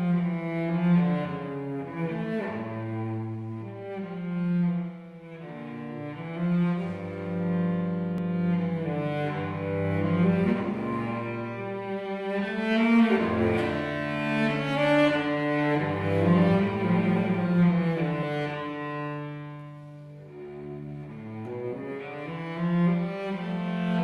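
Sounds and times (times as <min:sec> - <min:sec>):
bowed cello notes: 0:00.0 - 0:24.0.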